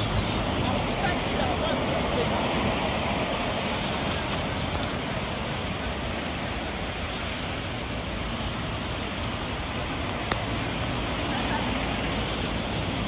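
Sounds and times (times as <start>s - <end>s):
light rain: 0.0s - 13.0s
traffic on wet road: 0.0s - 13.0s.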